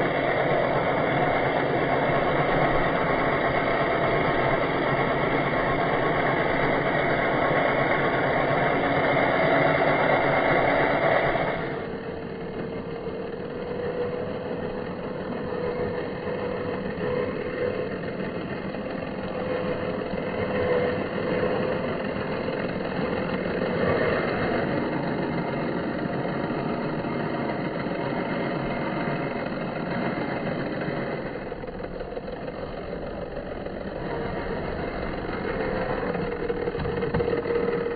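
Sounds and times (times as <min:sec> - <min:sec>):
toy car motor whining: 0:00.0 - 0:37.9.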